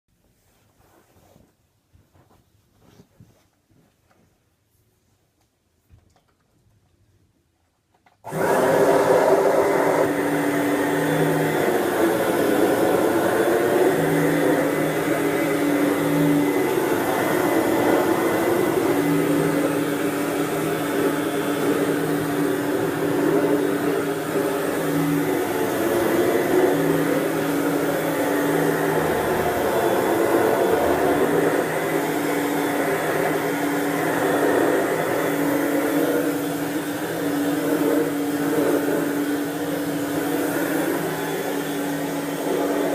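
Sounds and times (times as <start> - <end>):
stick vacuum running: 8.2 - 42.9.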